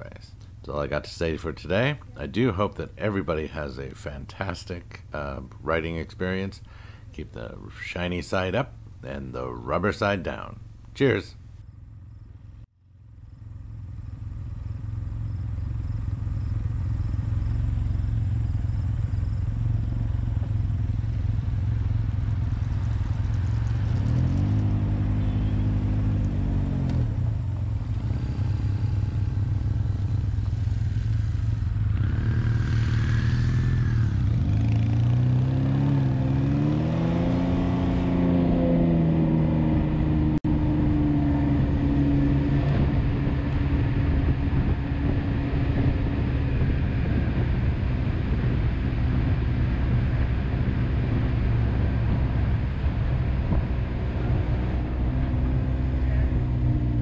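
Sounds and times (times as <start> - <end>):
motorcycle engines rumbling: 0.0 - 57.0.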